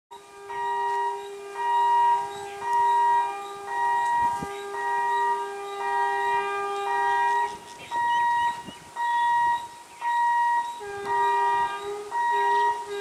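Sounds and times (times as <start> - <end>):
electronic warning siren: 0.1 - 13.0.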